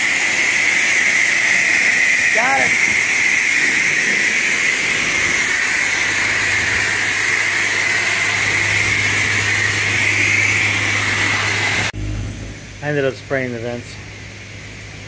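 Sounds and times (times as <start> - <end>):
pressure washer spraying water: 0.0 - 15.0.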